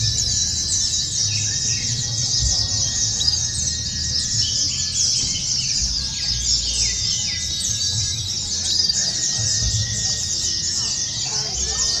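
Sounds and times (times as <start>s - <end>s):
chorus of birds chirping: 0.0s - 12.0s.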